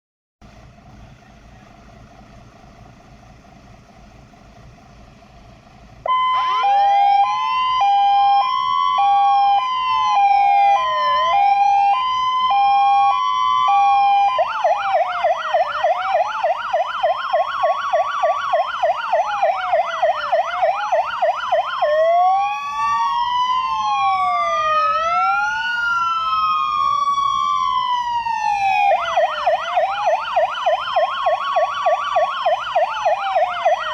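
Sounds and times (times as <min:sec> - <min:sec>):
fire engine sirens wailing: 0:00.5 - 0:33.9
rapid siren yelp: 0:06.0 - 0:33.9
two-tone hi-lo siren: 0:06.0 - 0:33.9.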